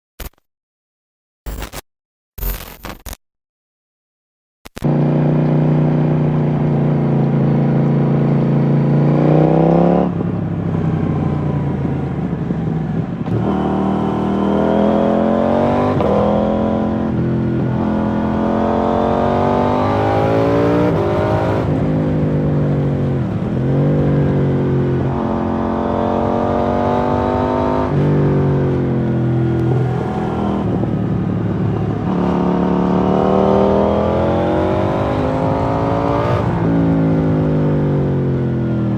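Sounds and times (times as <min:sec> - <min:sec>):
motorcycle engine accelerating hard: 0:04.8 - 0:38.9.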